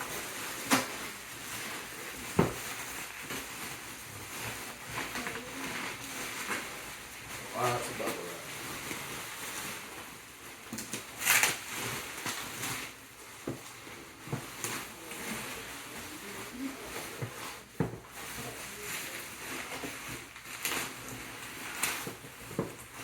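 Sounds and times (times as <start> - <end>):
bubble wrap rustling and crinkling: 0.0 - 23.0.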